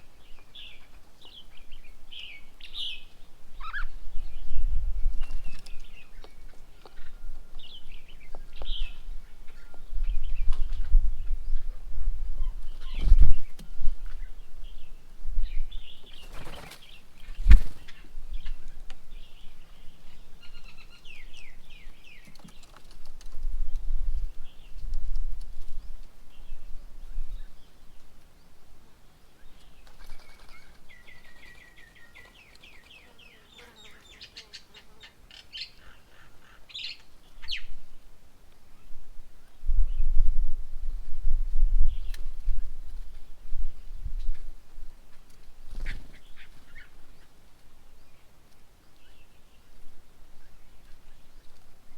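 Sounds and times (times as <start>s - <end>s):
birds chirping: 0.0s - 23.4s, 24.1s - 38.0s, 45.1s - 51.9s.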